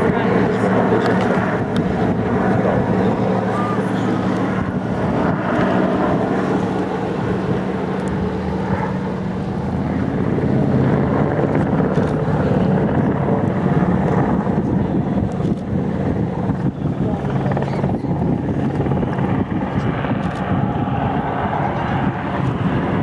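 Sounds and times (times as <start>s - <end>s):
low engine drone: 0.0s - 23.0s
wind buffeting microphone: 0.0s - 23.0s.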